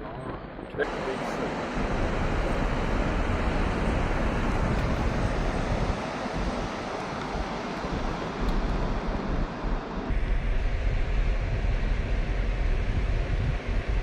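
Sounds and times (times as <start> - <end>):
wind noise: 0.0 - 14.0
car rumbling on sand: 0.8 - 14.0.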